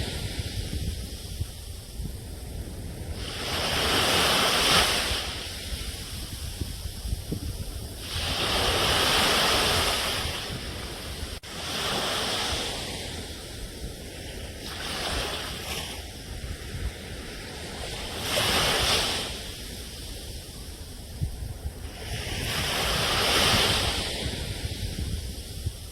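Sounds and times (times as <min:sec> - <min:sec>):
waves breaking on shore: 0:00.0 - 0:25.9.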